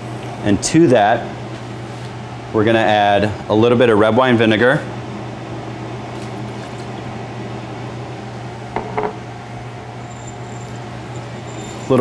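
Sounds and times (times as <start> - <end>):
ventilation fan hum: 0.0 - 12.0.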